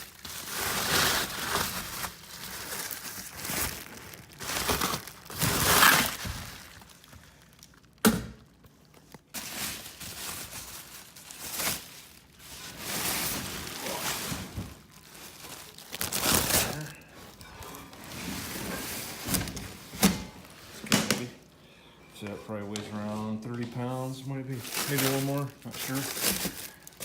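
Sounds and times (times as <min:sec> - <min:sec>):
packaging crinkling and tearing: 0:00.0 - 0:19.8, 0:24.5 - 0:27.0.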